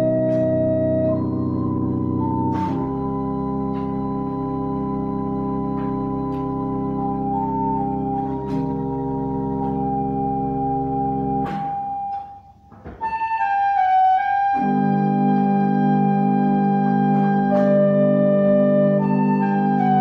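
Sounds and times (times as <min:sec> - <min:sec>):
organ chords over deep bass: 0:00.0 - 0:12.2, 0:13.1 - 0:20.0.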